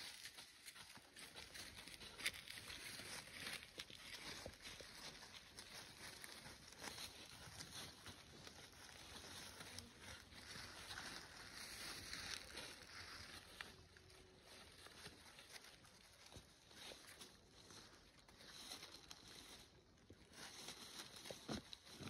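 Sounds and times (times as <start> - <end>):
goats stepping in dry leaves: 0.0 - 22.0.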